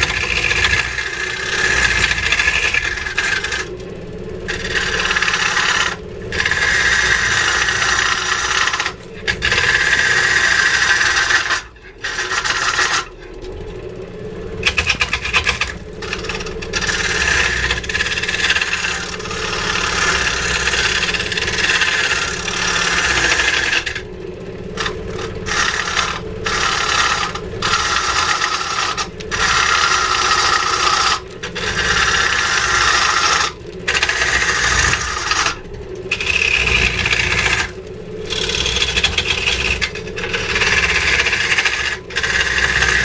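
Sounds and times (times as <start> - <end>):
hand tool scraping wood: 0.0 - 13.6, 14.4 - 43.0.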